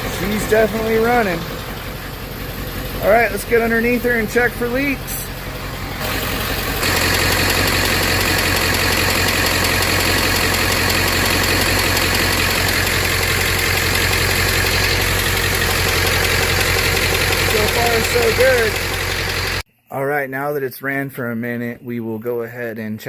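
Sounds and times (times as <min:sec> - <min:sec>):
diesel engine idling: 0:00.0 - 0:19.6.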